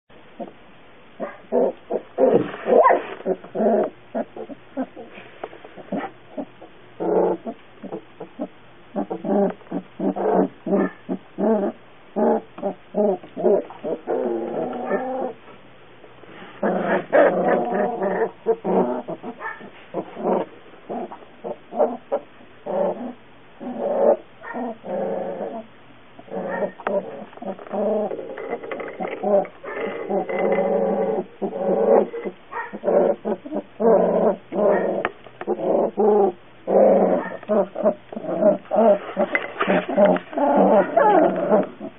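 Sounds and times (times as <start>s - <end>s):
puppies whining: 1.2s - 5.2s, 5.8s - 15.4s, 16.6s - 41.9s.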